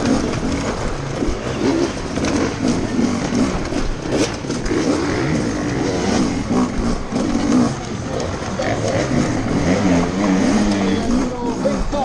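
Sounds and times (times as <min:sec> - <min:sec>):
close loud dirt bike engine: 0:00.0 - 0:12.0
dirt bikes revving in a pack: 0:00.0 - 0:12.0.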